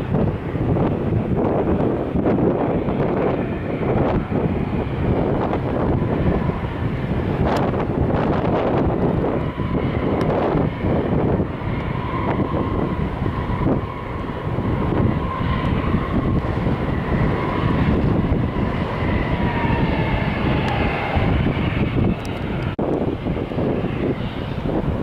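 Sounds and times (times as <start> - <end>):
aircraft engine whine: 0.0 - 25.0
wind buffeting microphone: 0.0 - 25.0.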